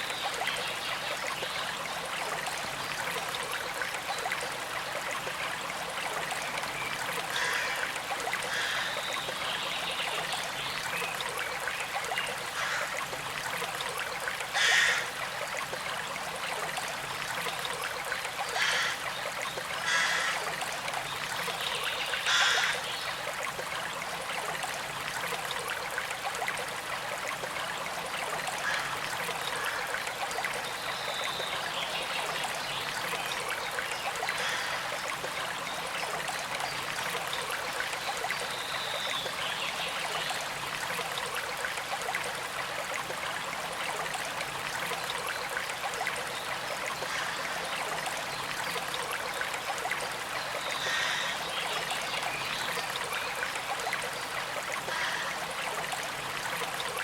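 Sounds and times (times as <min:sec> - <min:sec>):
creek flowing and trickling: 0:00.0 - 0:57.0.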